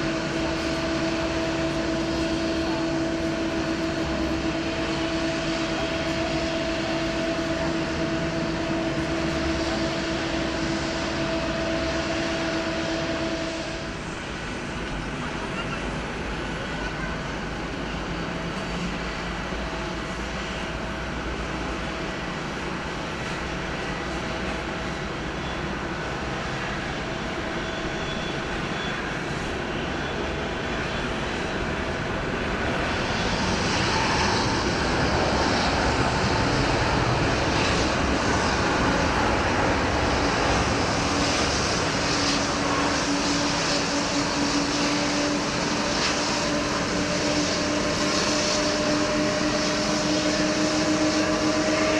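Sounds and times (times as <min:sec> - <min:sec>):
jet engines humming: 0:00.0 - 0:51.9.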